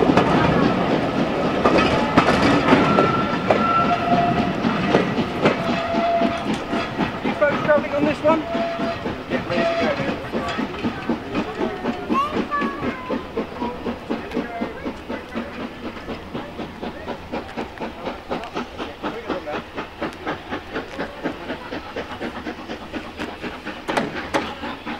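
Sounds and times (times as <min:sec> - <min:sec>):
steam locomotive exhaust beats: 0:00.0 - 0:24.9.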